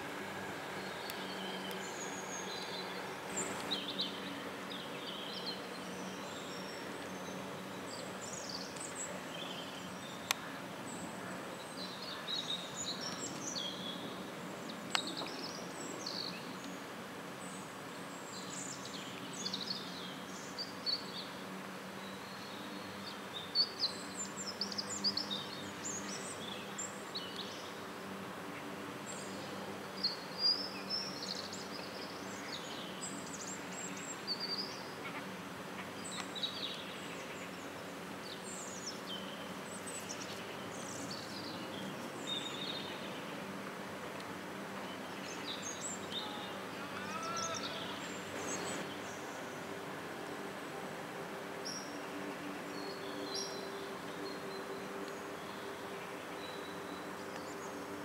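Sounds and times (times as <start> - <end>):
small birds chirping: 0.0 - 50.7
low outdoor background hum: 0.0 - 58.0.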